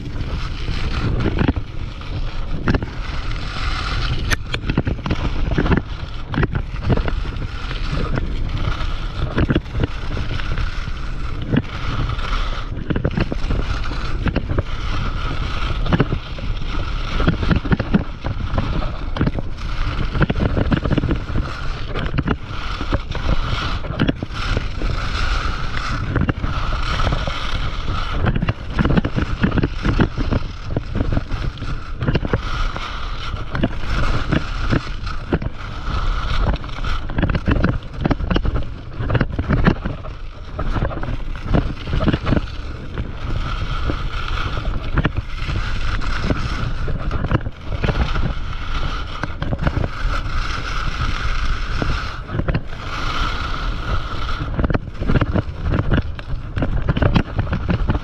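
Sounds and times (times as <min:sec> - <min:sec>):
skis scraping on snow: 0:00.0 - 0:58.0
wind buffeting microphone: 0:00.0 - 0:58.0.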